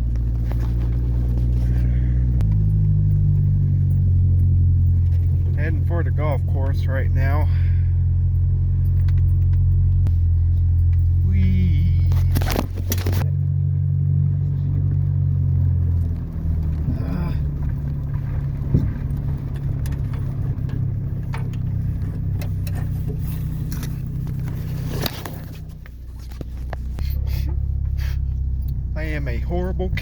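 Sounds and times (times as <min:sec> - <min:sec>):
light rattles and clicks: 0:00.0 - 0:07.6, 0:08.2 - 0:13.3, 0:15.7 - 0:30.0
pickup truck engine droning: 0:00.0 - 0:30.0.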